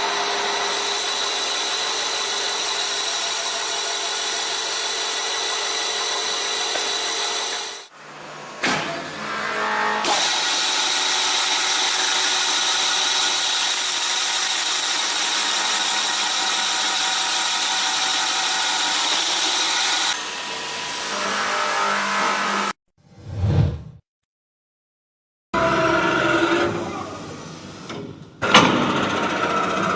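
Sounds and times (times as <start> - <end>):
power tool cutting wood: 0.0 - 7.9, 8.6 - 22.8, 25.6 - 29.9.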